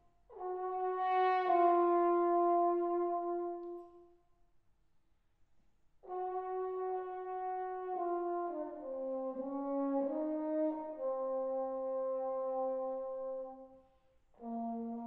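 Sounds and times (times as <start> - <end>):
french horn playing: 0.3 - 4.1, 6.0 - 13.8, 14.4 - 15.0.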